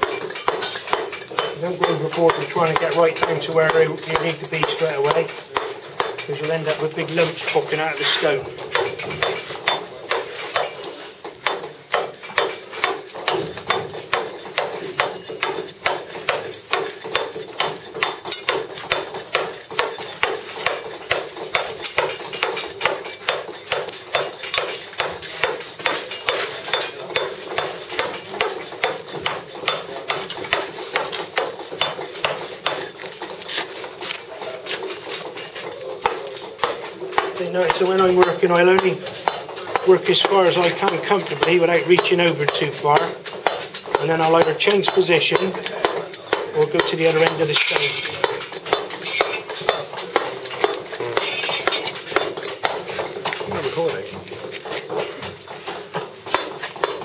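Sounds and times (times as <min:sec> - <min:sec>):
mallet striking claw tool: 0:00.0 - 0:57.0
stone chipping: 0:00.0 - 0:57.0.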